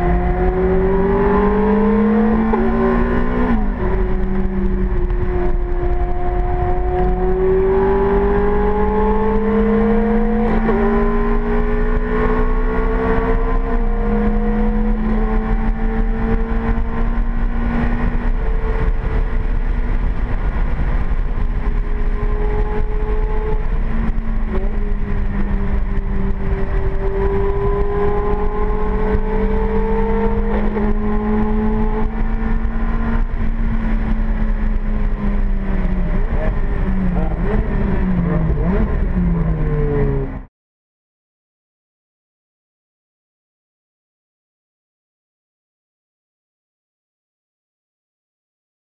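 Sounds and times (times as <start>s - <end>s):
gear changes: 0.0s - 40.4s
tyre and wind noise: 0.0s - 40.4s
car engine pulling hard: 0.0s - 40.5s.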